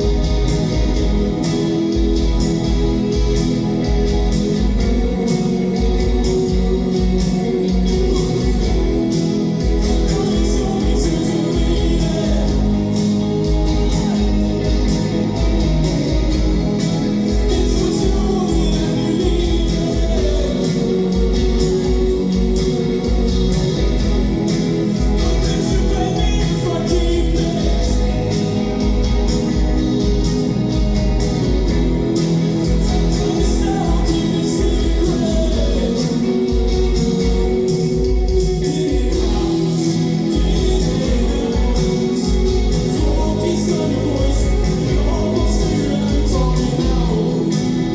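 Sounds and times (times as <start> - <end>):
drums: 0.0 - 47.9
electric guitar: 0.0 - 47.9
heavy pulsing bass: 0.0 - 47.9
person singing: 0.0 - 47.9.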